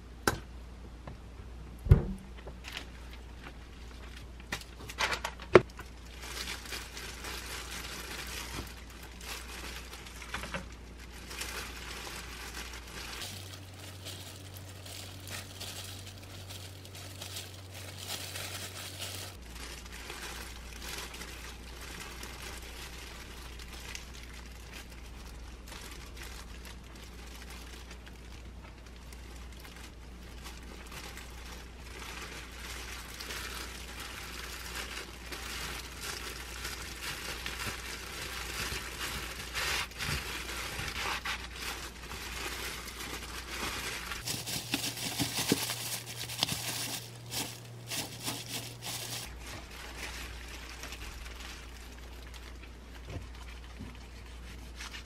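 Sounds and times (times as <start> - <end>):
plastic gloves crinkling: 2.2 - 55.0.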